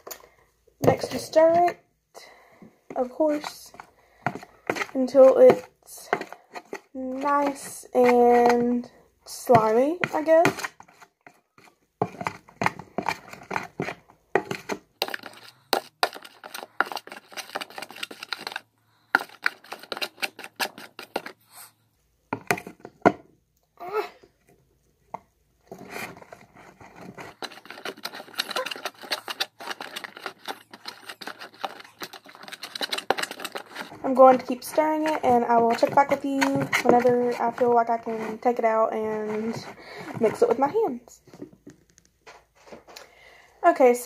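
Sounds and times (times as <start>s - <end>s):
spoon scraping plastic tub: 0.0s - 23.0s, 25.6s - 43.0s.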